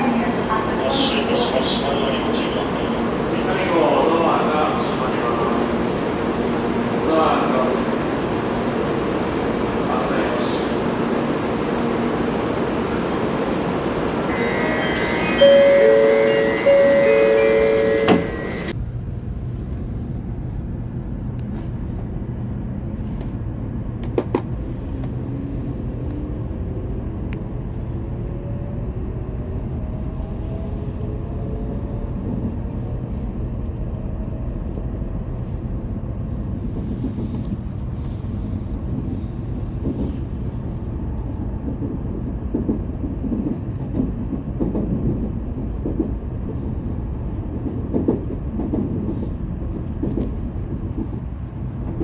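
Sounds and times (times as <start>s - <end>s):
train rumble inside passenger car: 0.0s - 52.0s.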